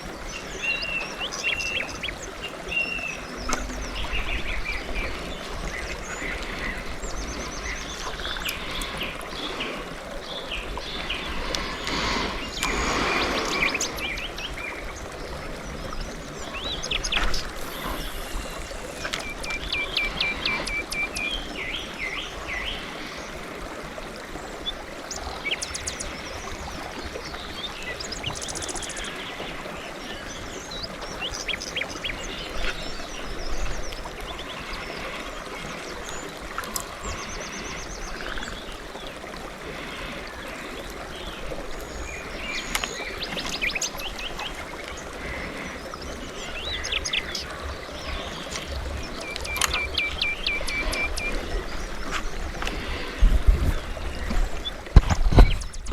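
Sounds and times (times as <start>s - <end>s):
songbirds chirping and singing: 0.1s - 23.2s, 27.5s - 55.9s.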